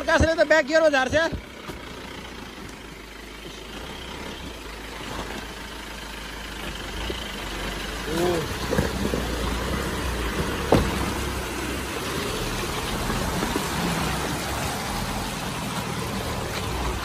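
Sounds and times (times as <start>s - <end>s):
pickup engine running: 0.0s - 17.0s
road and tyre noise: 0.0s - 17.0s.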